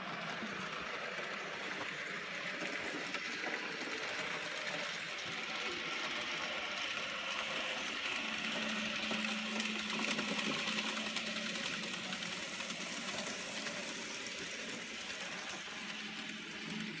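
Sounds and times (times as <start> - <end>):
model train motor whirring: 0.0 - 17.0
wheels running on rails: 0.0 - 17.0.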